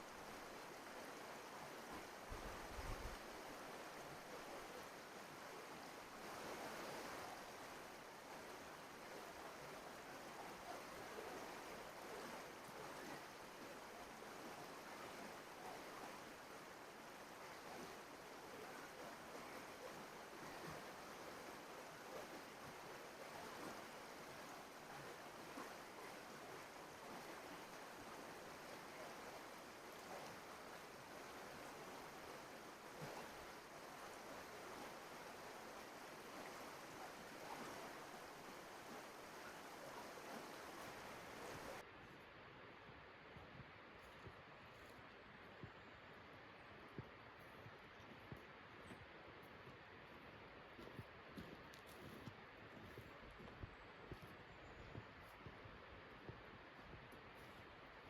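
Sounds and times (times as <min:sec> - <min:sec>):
brook flowing: 0:00.0 - 0:58.0.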